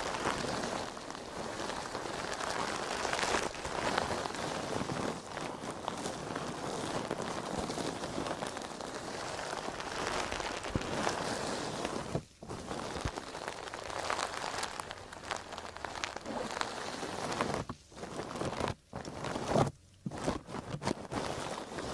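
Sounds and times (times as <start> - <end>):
dry sponge crackling: 0.0 - 21.9.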